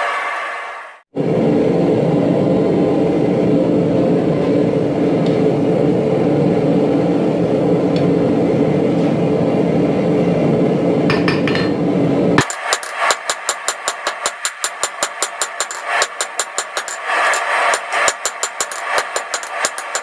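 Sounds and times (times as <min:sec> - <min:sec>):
forge rushing hum: 0:00.0 - 0:20.0.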